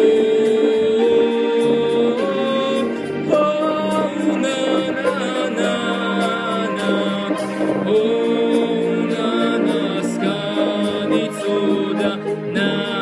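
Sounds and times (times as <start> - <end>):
man singing slow song: 0.0 - 13.0.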